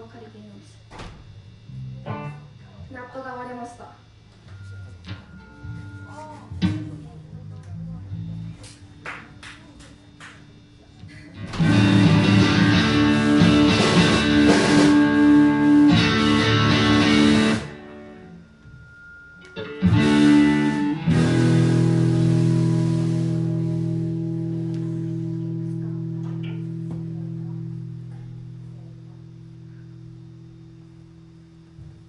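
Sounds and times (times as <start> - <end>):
guitars strumming chords: 1.4 - 2.8, 4.5 - 32.0.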